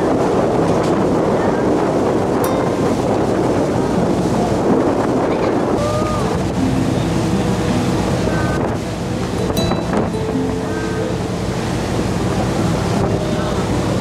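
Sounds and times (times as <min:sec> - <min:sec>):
churning wake water: 0:00.0 - 0:14.0
low engine hum: 0:00.0 - 0:14.0
wind buffeting microphone: 0:00.0 - 0:14.0
soft music with held notes: 0:02.4 - 0:14.0.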